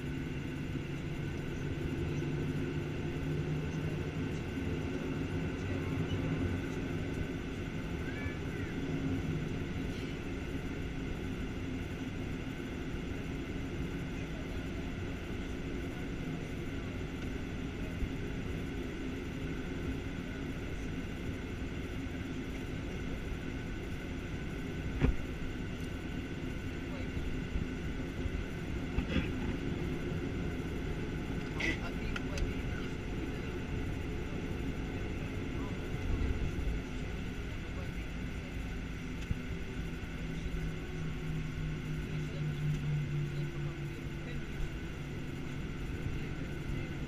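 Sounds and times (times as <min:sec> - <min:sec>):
jet engine cabin rumble: 0:00.0 - 0:47.0.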